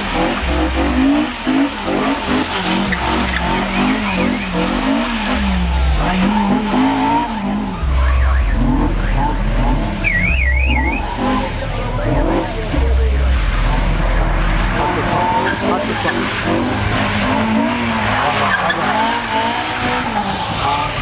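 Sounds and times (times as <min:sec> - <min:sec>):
car engine revving: 0:00.0 - 0:21.0
tyres skidding on wet pavement: 0:00.0 - 0:21.0.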